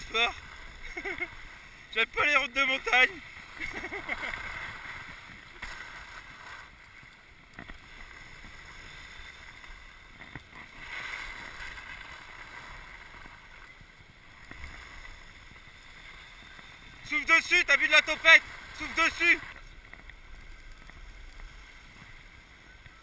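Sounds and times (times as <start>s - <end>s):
skis sliding on snow: 0.0s - 23.0s.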